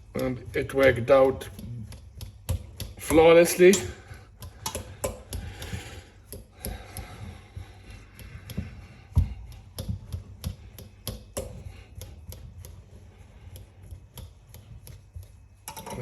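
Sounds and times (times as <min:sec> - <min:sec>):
fork mashing potatoes: 0:00.0 - 0:16.0.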